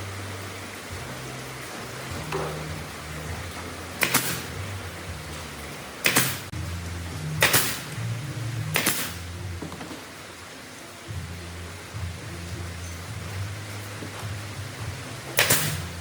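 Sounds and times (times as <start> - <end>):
music with stepping bass line: 0.0 - 5.8, 6.4 - 9.8, 11.1 - 16.0.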